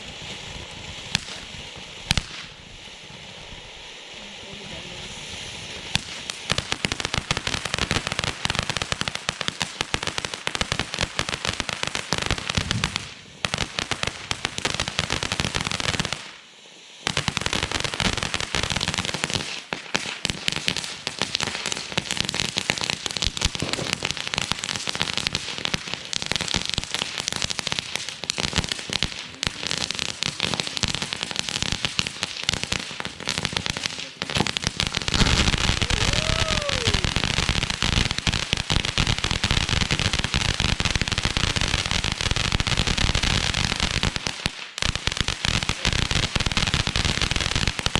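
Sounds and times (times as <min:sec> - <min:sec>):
fireworks crackling: 0:00.0 - 0:47.9.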